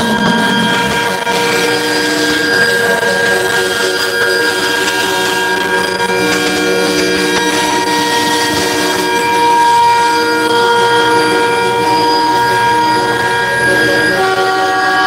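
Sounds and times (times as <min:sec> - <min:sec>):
truck air horns blasting: 0:00.0 - 0:15.0.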